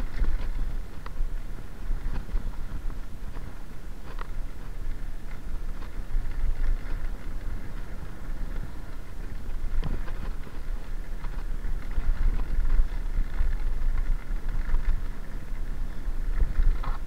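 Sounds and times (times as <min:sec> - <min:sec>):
bike tyres on gravel: 0:00.0 - 0:17.0
wind on microphone: 0:00.0 - 0:17.0.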